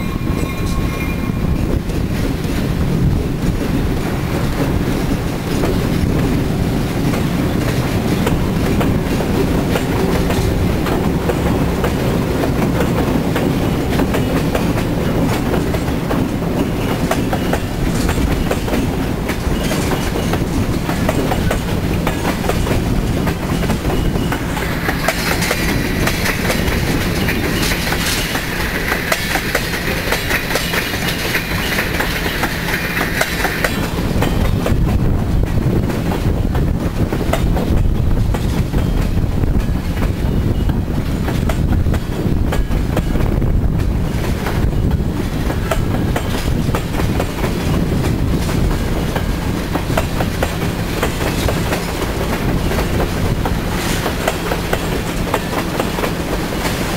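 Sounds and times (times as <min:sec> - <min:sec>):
diesel locomotives rumbling: 0:00.0 - 0:56.9
wheels clicking over rail joints: 0:01.8 - 0:56.9.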